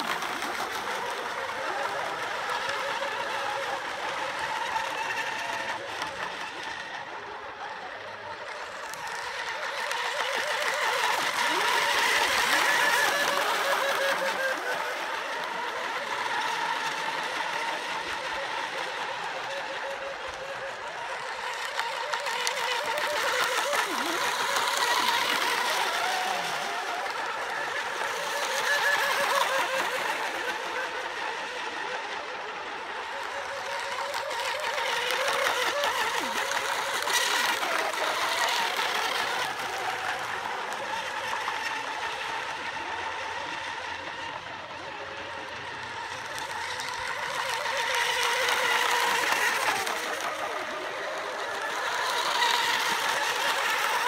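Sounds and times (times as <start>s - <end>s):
racing boat motors whining: 0.0s - 54.0s.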